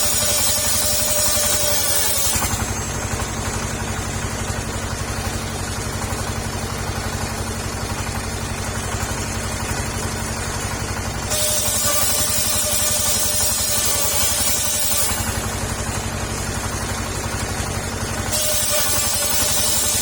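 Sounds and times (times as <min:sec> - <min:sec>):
petrol engine running: 0:00.0 - 0:20.0.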